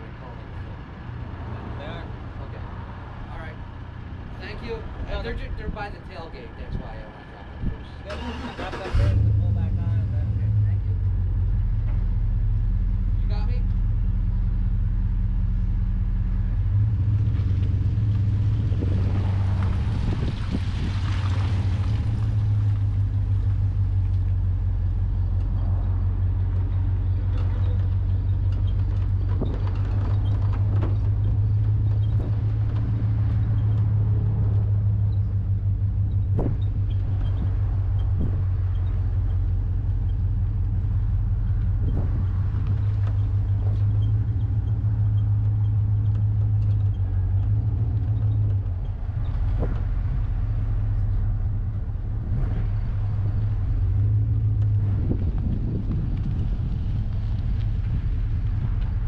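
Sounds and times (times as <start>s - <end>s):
pickup truck engine running: 0.0s - 59.0s.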